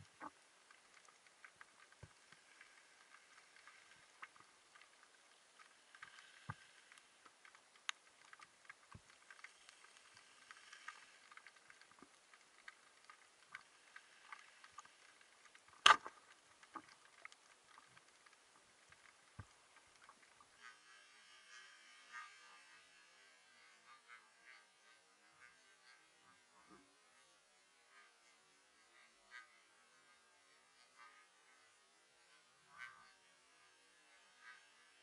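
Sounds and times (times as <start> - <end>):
faint underwater ambience: 0.0 - 35.0
small clicks and crackles: 0.0 - 35.0.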